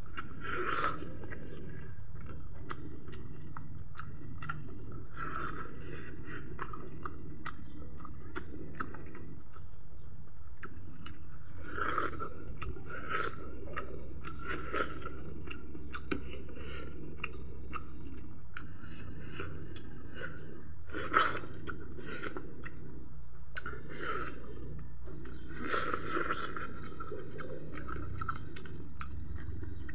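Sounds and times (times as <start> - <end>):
person chewing meat: 0.0 - 29.9.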